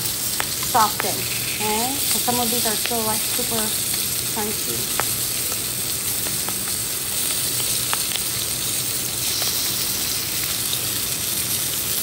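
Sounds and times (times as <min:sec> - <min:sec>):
peppers sizzling in oil: 0:00.0 - 0:12.0
oil popping: 0:00.1 - 0:11.2.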